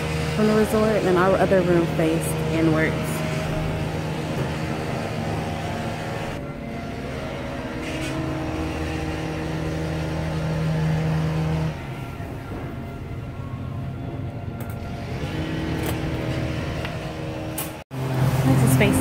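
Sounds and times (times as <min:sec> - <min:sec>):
low mechanical hum with tones: 0:00.0 - 0:19.0.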